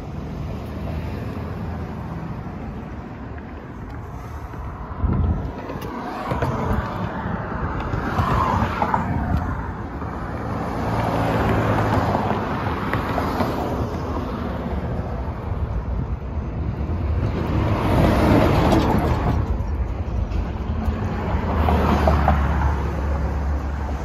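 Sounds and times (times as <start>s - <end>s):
road traffic rumbling hum: 0.0s - 24.0s.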